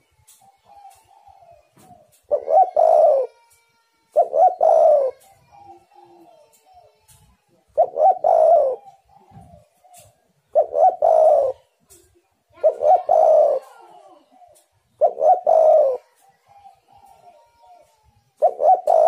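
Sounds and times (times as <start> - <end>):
dove cooing: 0.0 - 3.4, 4.1 - 12.0, 12.6 - 19.0
faint dove cooing: 0.0 - 3.5, 4.1 - 19.0.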